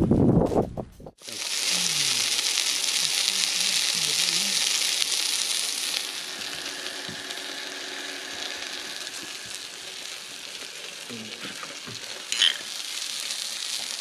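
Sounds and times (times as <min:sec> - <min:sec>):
sausages sizzling on a grill: 0:01.2 - 0:14.0.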